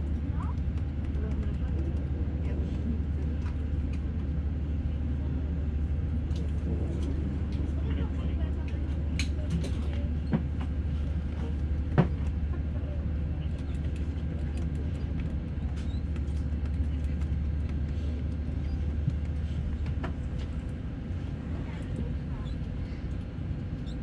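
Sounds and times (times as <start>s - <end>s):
aircraft cabin hum: 0.0s - 24.0s.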